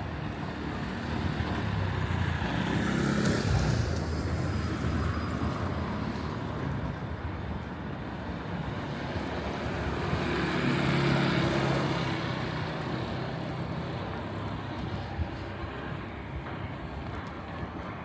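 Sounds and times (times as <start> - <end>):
street background noise: 0.0 - 18.0.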